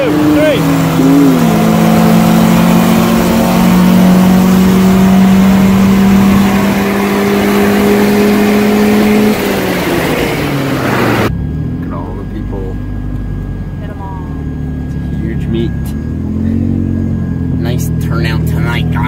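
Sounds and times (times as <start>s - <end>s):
car engine at full throttle: 0.0s - 19.0s.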